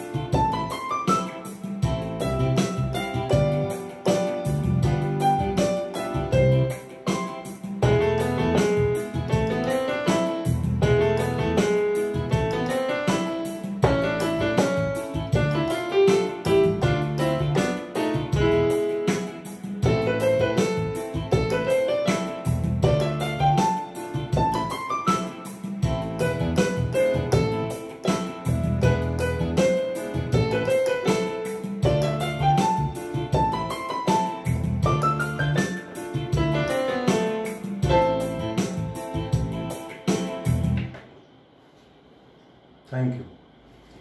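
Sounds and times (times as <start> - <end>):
keyboard playing piano runs: 0.0 - 41.0.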